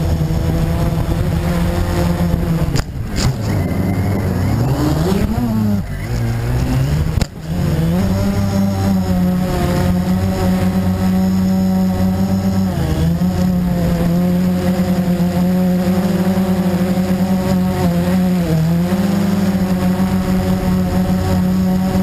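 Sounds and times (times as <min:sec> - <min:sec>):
quadcopter motors humming: 0:00.0 - 0:22.0.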